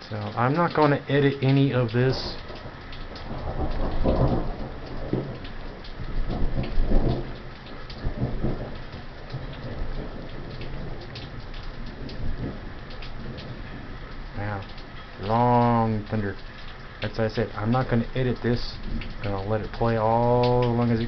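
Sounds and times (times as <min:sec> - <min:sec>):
raindrops ticking close by: 0:00.0 - 0:21.0
steady rain: 0:00.0 - 0:21.0
thunder rumbling: 0:00.0 - 0:21.0.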